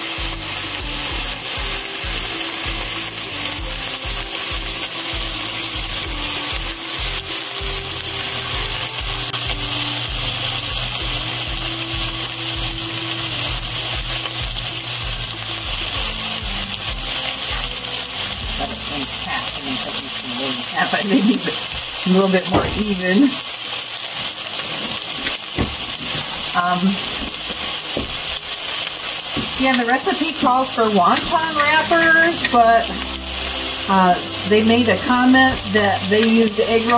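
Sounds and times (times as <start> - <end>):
food sizzling in a frying pan: 0.0 - 36.9.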